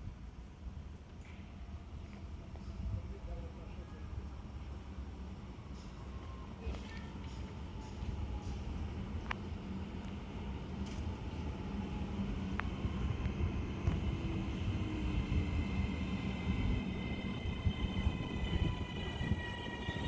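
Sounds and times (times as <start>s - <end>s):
train rumbling: 0.6s - 20.0s.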